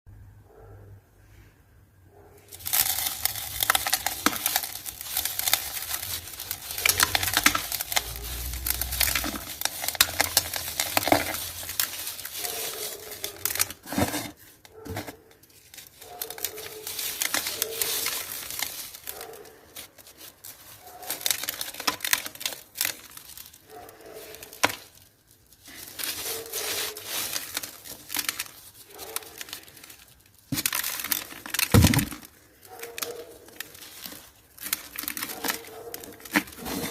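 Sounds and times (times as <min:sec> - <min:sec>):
cement crumbling: 0:02.5 - 0:32.9.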